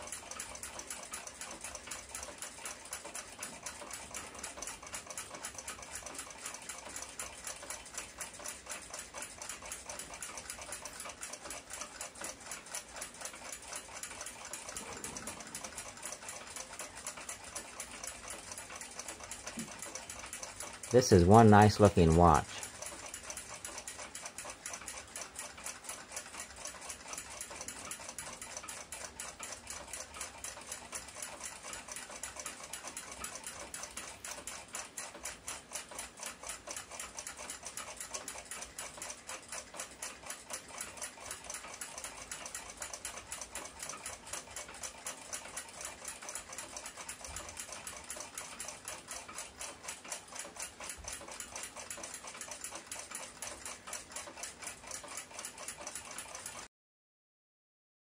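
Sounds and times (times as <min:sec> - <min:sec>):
pocket watch ticking: 0:00.0 - 0:56.7.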